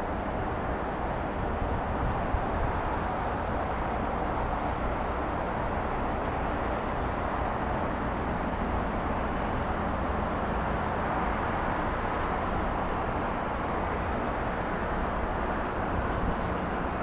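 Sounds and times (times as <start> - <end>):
urban background rumble and hiss: 0.0 - 17.0.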